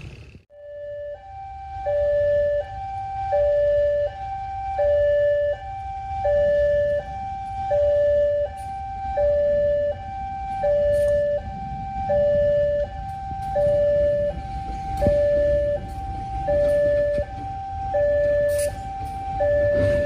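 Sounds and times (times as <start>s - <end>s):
low rumbling noise: 0.0s - 20.0s
two-tone electronic alarm: 0.5s - 20.0s.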